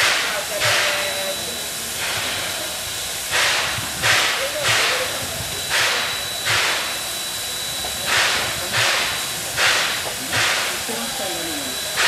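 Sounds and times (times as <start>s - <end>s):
steam hissing puffs: 0.0s - 12.0s.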